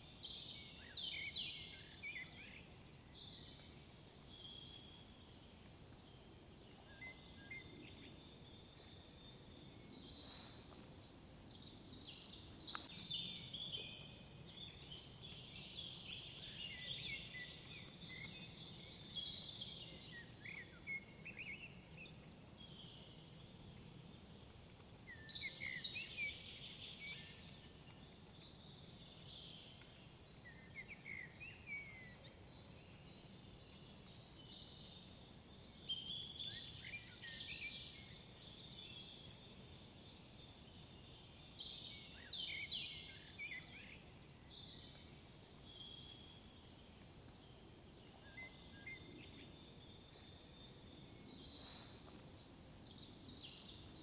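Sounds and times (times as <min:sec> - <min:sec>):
songbirds singing and trilling: 0:00.0 - 0:54.0.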